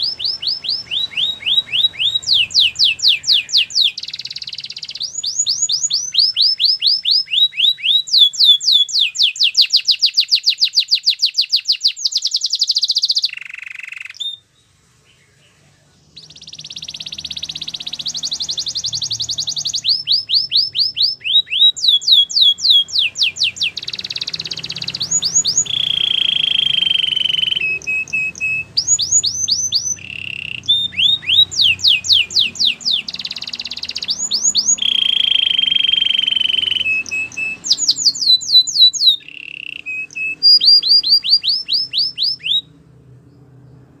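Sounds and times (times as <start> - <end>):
canary singing: 0.0 - 44.0.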